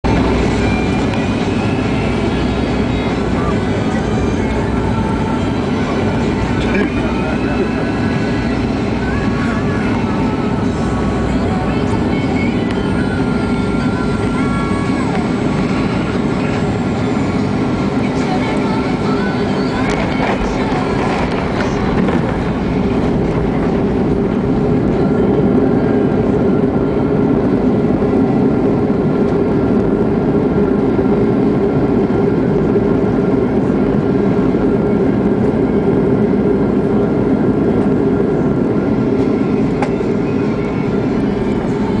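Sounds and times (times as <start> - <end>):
engine and wheel rumble: 0.0 - 42.0
faint engine tones: 0.0 - 42.0.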